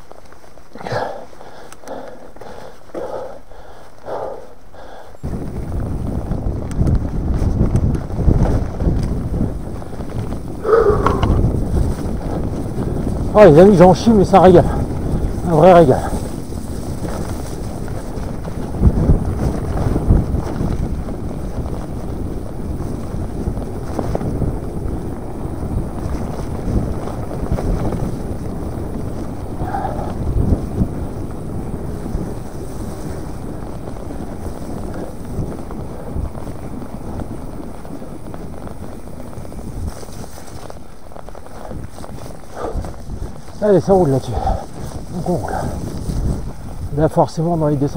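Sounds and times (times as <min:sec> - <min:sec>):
bike rumbling on trail: 0:00.0 - 0:47.9
wind buffeting microphone: 0:00.0 - 0:47.9.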